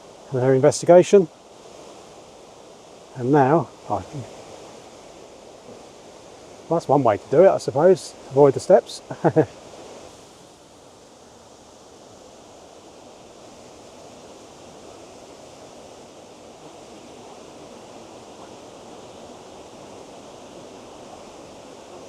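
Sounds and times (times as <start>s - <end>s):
stream and waterfalls rushing: 0.0s - 22.0s.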